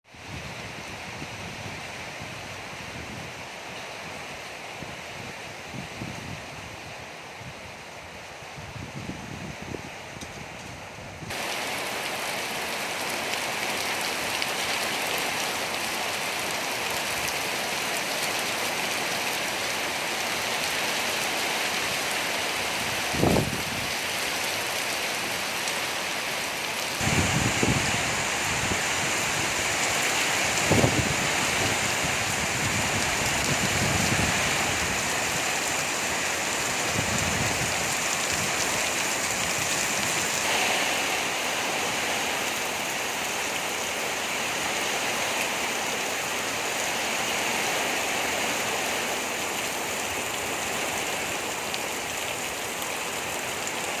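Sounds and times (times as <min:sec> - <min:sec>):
heavy rain pouring: 0:08.3 - 0:54.0.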